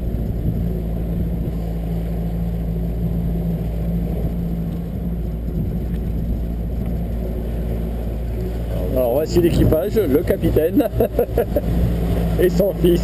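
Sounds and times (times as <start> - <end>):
outboard motor running: 0.0 - 13.0
rumble of wind and water: 0.0 - 13.0.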